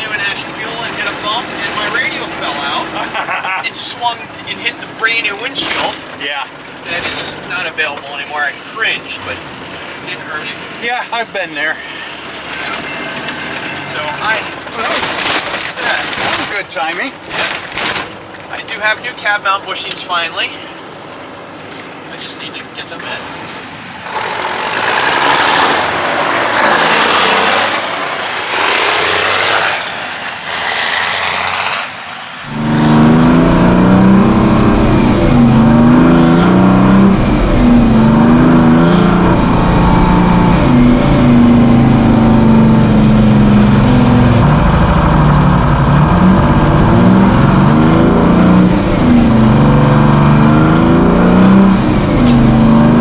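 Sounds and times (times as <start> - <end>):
truck diesel engine shifting gears: 0.0 - 10.8, 17.2 - 53.0
noisy rush: 0.0 - 53.0.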